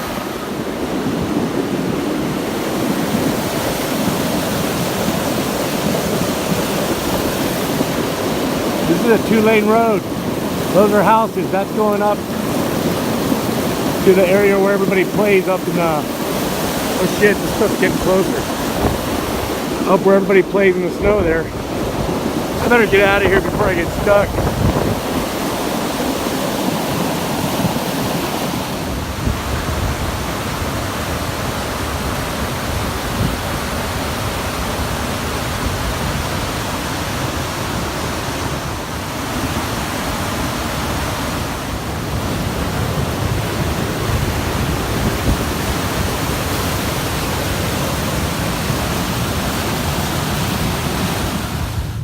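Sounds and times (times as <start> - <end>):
loud steady rushing noise: 0.0 - 52.0.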